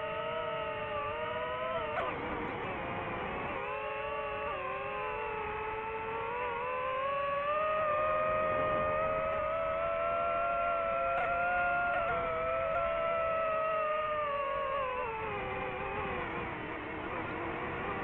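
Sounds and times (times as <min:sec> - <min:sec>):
drone propellers whining: 0:00.0 - 0:18.0.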